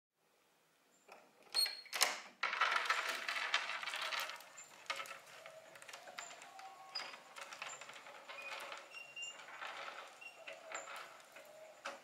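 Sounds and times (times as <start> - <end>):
rushing noise of door opening: 1.5 - 12.0.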